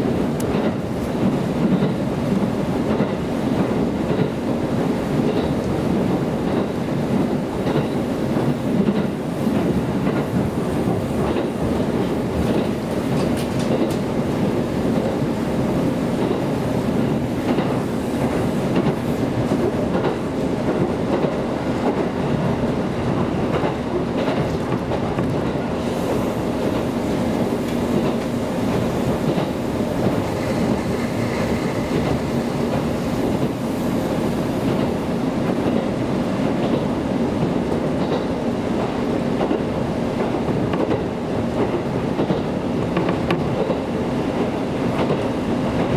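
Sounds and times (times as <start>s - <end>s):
train rumbling on rails: 0.0s - 45.9s.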